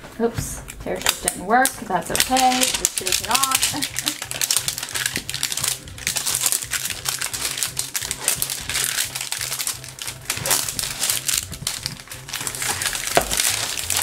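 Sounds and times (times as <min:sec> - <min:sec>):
plastic wrap crinkling: 0:01.0 - 0:14.0.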